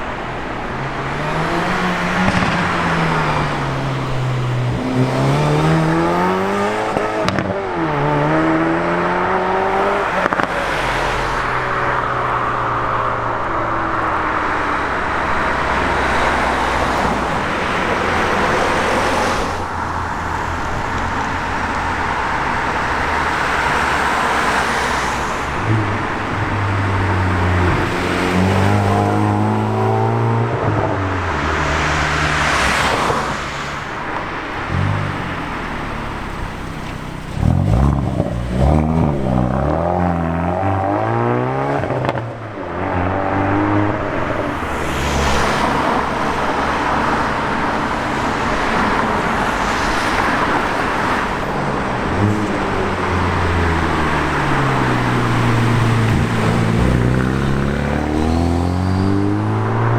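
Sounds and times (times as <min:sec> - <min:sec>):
car engine revving: 0:00.0 - 0:59.9
cars driving past: 0:00.0 - 0:59.9.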